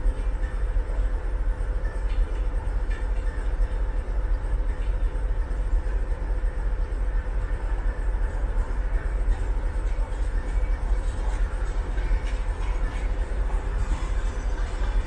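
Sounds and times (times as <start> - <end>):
steady hum: 0.0 - 15.0
train rumble: 0.0 - 15.0.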